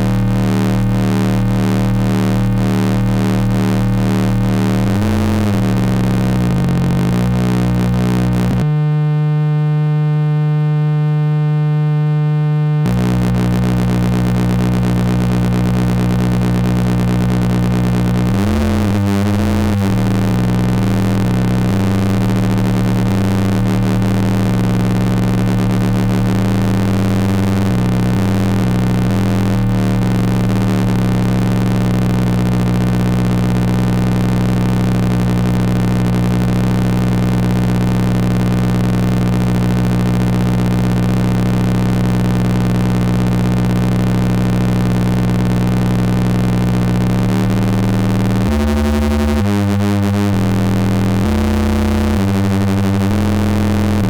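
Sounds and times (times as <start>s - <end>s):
dense buzzing synthesizer drone: 0.0s - 54.0s.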